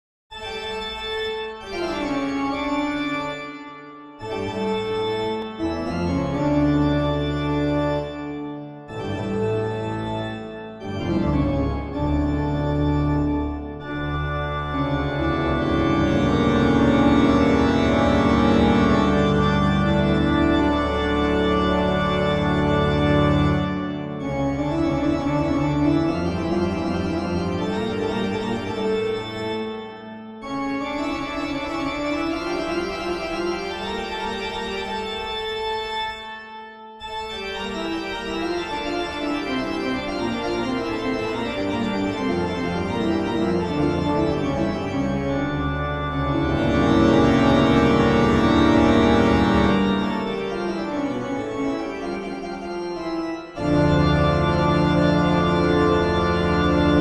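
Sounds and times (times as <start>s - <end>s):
slow organ-like chords: 4.2s - 57.0s.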